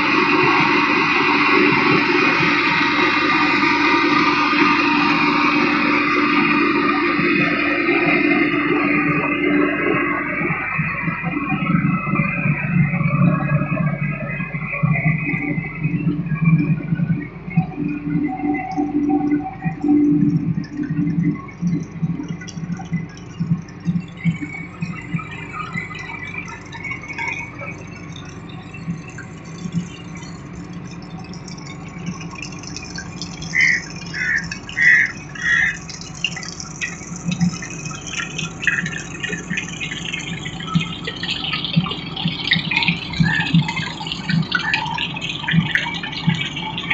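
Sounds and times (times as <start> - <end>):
low pulsing hum: 0.0 - 46.9
water splashing and trickling: 0.0 - 46.9.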